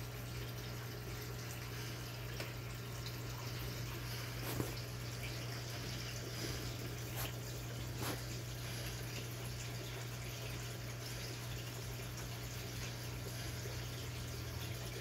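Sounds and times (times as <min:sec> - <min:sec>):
aquarium filter hum: 0:00.0 - 0:15.0
water trickling: 0:00.0 - 0:15.0.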